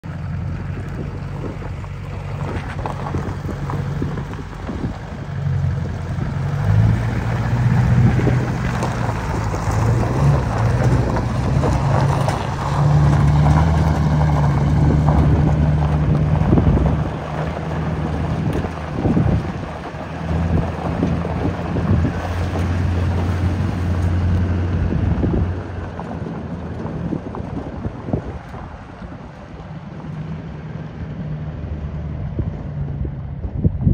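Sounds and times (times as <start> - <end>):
pickup truck engine running: 0.0 - 33.9
wind buffeting microphone: 0.4 - 30.2, 32.0 - 33.9.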